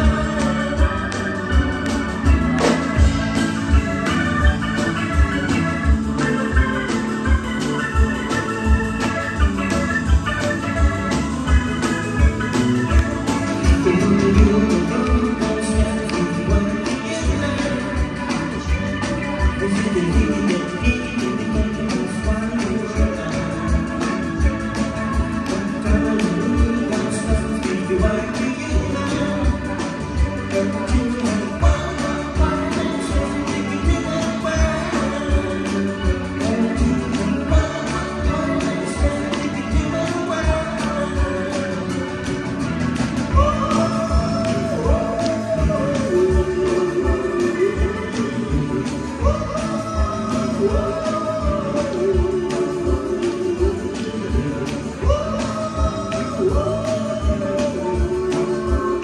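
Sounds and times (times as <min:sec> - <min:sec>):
bass drum beat: 0:00.0 - 0:59.0
electric guitar: 0:00.0 - 0:59.0
keyboards: 0:00.0 - 0:59.0
organ-toned synthesizer chords: 0:00.0 - 0:59.0.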